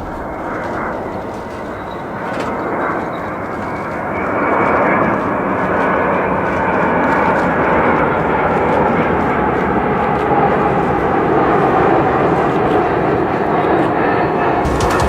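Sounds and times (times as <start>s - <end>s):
airplane engines running: 0.0s - 15.0s.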